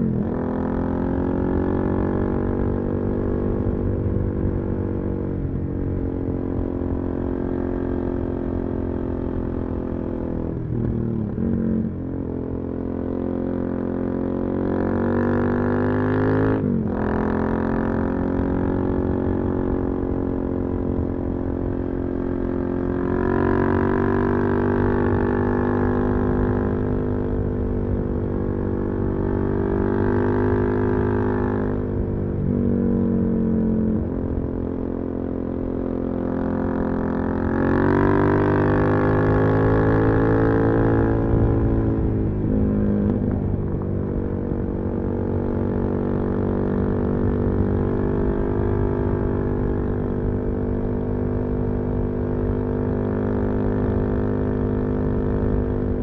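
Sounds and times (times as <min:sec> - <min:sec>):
motorcycle engine under way: 0:00.0 - 0:56.0.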